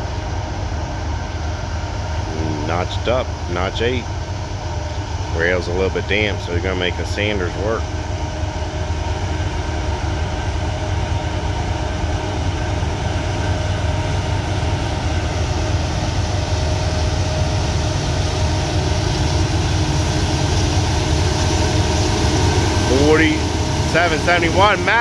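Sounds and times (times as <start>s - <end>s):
locomotive engine drone: 0.0s - 25.0s
turbocharger whine: 0.0s - 25.0s.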